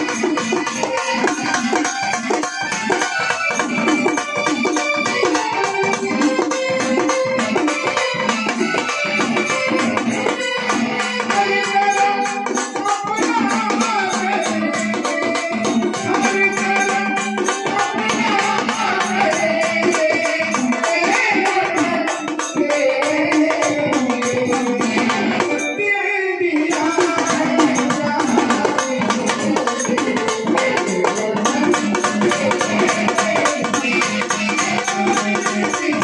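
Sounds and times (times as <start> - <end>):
frame drum beats: 0.0 - 25.7, 26.7 - 36.0.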